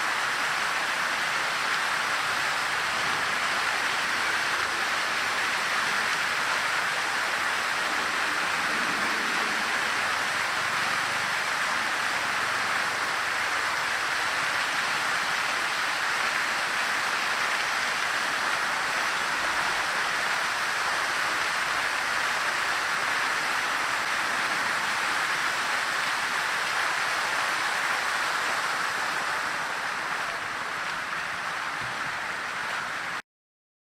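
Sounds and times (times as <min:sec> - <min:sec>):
fountain water splashing: 0:00.0 - 0:33.2.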